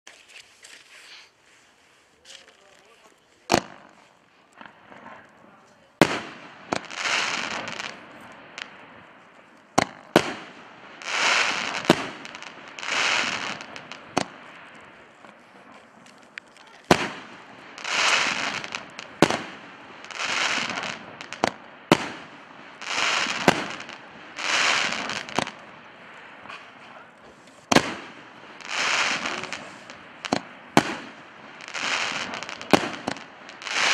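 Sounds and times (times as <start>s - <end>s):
crackling hiss of bursting shells: 0.1s - 5.4s, 6.0s - 33.9s
firework bangs: 3.4s - 33.9s.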